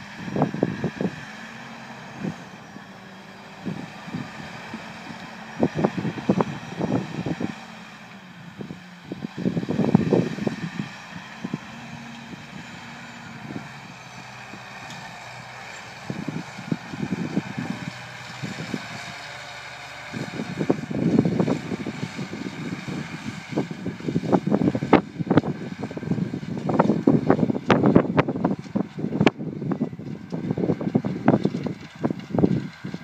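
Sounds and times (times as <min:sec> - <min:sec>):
tractor engine running: 0:00.0 - 0:33.0
wind buffeting microphone: 0:00.0 - 0:33.0.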